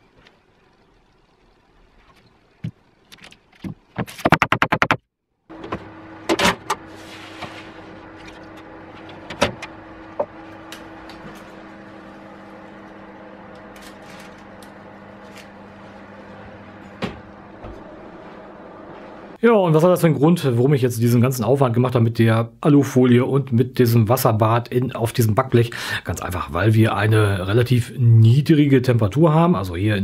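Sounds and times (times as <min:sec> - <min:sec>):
electric oven humming: 0:00.0 - 0:03.1, 0:05.4 - 0:20.1, 0:23.0 - 0:30.0.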